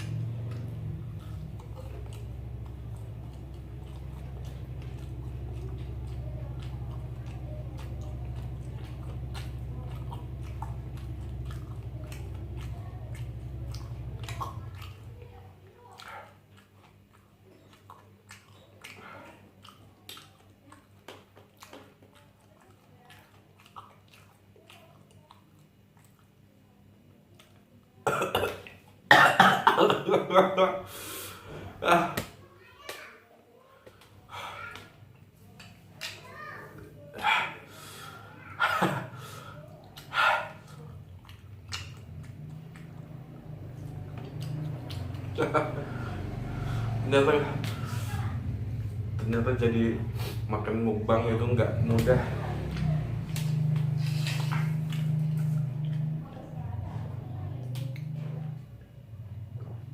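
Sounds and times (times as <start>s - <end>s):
person chewing food: 0.0s - 29.1s, 33.8s - 57.0s, 57.6s - 58.2s
steady low hum: 0.0s - 32.5s, 34.0s - 59.9s.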